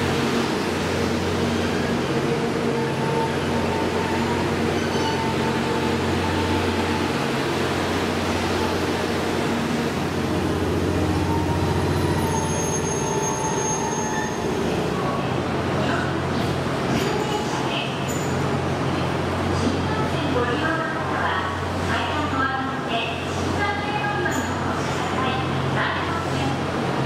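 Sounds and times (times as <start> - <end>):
train humming and rolling slowly: 0.0 - 27.0.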